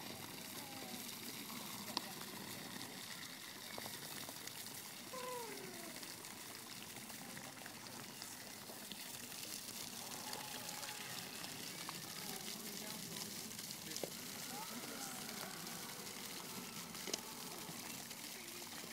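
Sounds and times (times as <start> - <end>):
outdoor background hiss: 0.0 - 18.9.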